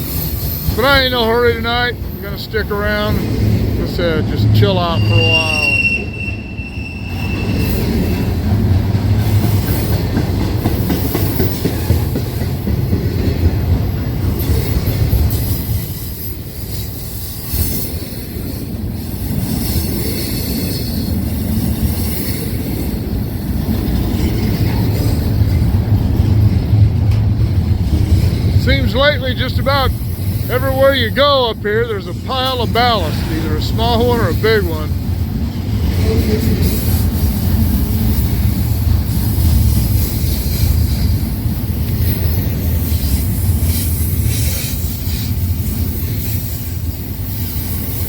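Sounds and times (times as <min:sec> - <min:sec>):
freight train rumbling past: 0:00.0 - 0:48.0.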